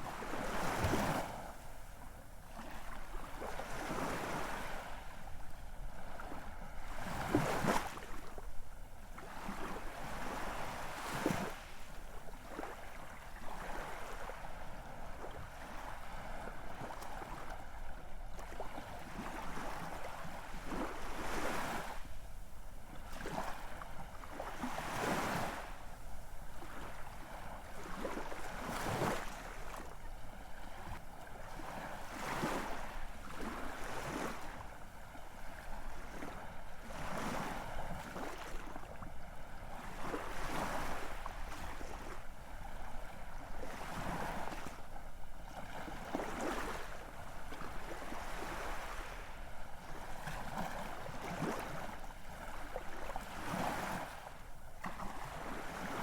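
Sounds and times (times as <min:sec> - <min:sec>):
ocean waves breaking on shore: 0:00.0 - 0:08.5, 0:09.1 - 0:56.0.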